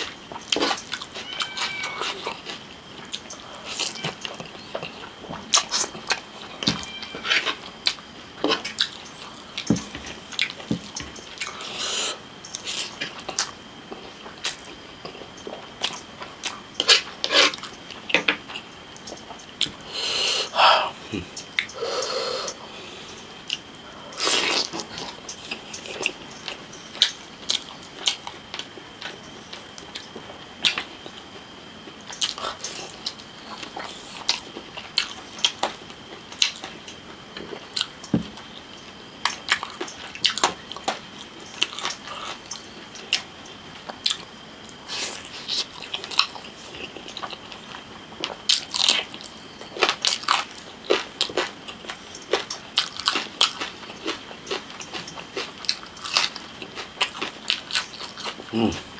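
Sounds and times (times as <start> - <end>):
faint high whine: 0.0 - 58.9
man chewing food: 0.0 - 58.9.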